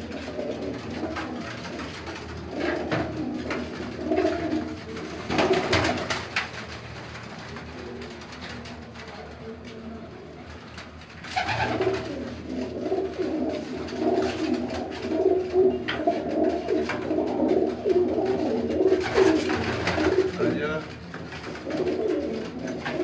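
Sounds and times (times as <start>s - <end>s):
pigeons cooing: 0.0s - 10.4s, 11.2s - 20.6s, 21.2s - 23.0s.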